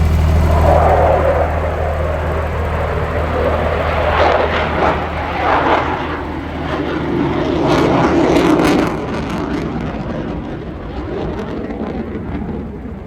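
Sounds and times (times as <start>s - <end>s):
aircraft engine roar: 0.0s - 13.0s.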